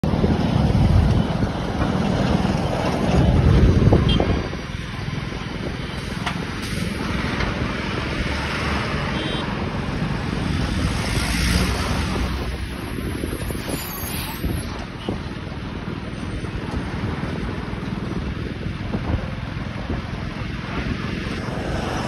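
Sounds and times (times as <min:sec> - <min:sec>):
heavy trucks rumbling on highway: 0:00.0 - 0:22.0
tyres on road: 0:00.0 - 0:22.0.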